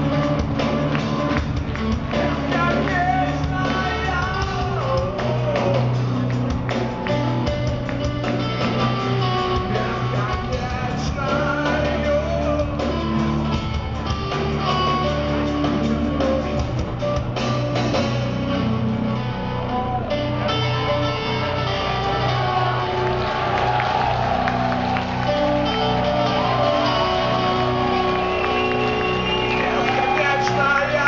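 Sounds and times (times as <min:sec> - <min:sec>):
distorted electric guitars: 0:00.0 - 0:31.0
live rock band playing: 0:00.0 - 0:31.0.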